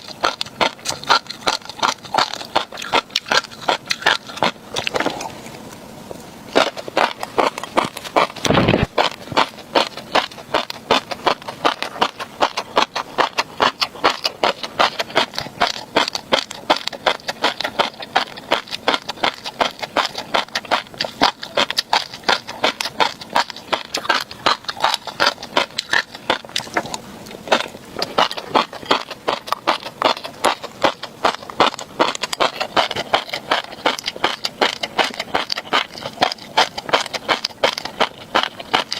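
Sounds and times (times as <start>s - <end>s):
chewing fish roe popping: 0.0s - 38.9s.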